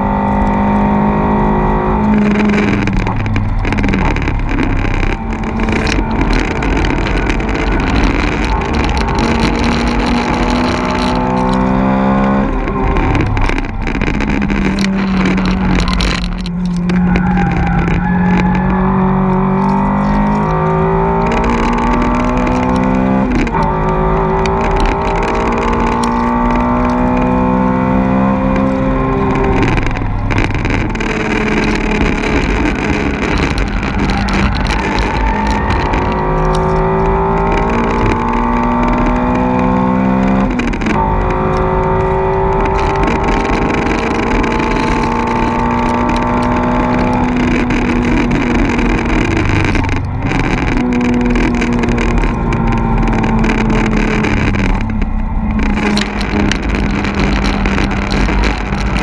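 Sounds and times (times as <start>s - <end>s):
car engine revving through gears: 0.0s - 59.0s.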